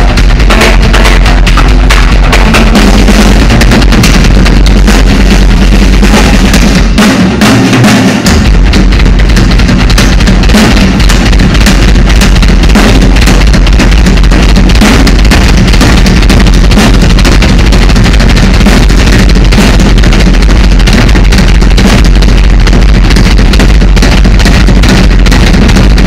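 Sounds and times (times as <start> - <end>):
distorted drum solo: 0.0 - 26.0.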